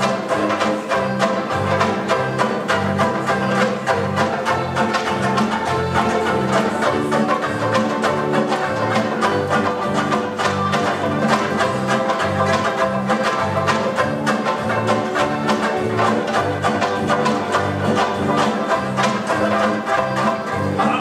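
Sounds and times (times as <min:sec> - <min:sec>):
banjo ukuleles strummed briskly: 0:00.0 - 0:21.0.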